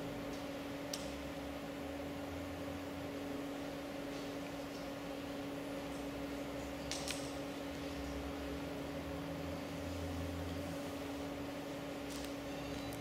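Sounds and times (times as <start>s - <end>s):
low electrical hum: 0.0s - 13.0s
room noise hiss: 0.0s - 13.0s.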